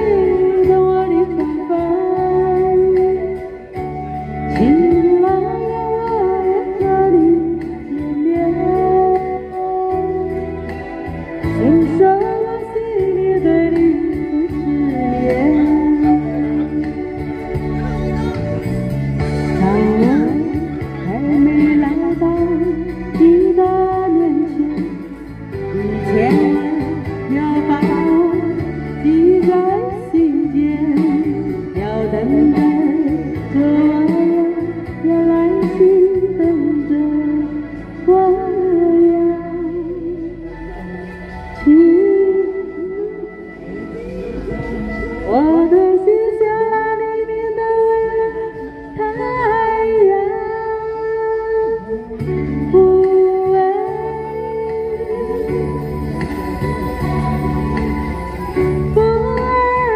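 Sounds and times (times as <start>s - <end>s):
instrumental backing track: 0.0s - 59.9s
woman singing slow melody: 0.0s - 59.9s.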